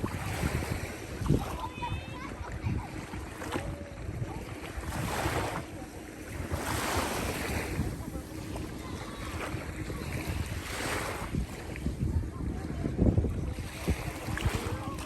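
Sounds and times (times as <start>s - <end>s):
sea water rushing: 0.0s - 15.0s
wind rumbling on microphone: 0.0s - 15.0s.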